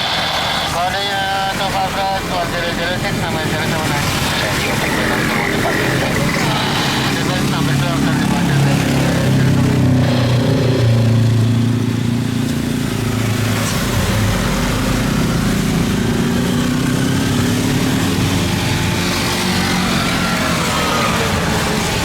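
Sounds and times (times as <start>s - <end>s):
jet airliner engines droning: 0.0s - 22.0s
rising engine whine: 0.0s - 22.0s.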